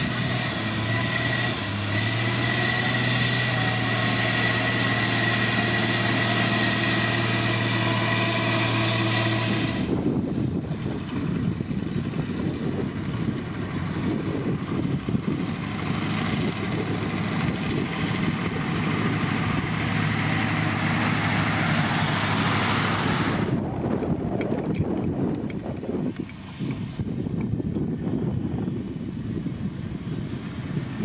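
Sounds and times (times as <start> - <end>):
heavy machinery diesel engine: 0.0 - 31.0.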